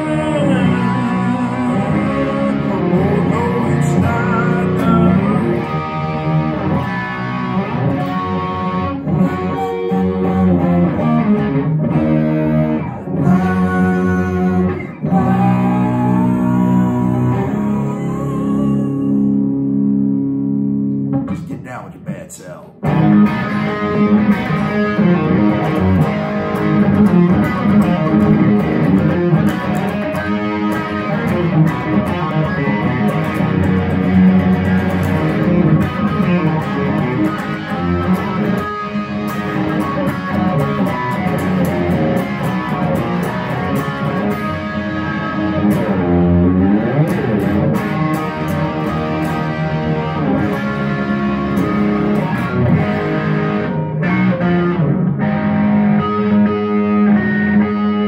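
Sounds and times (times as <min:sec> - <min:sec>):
electric guitar strumming: 0:00.0 - 0:58.0.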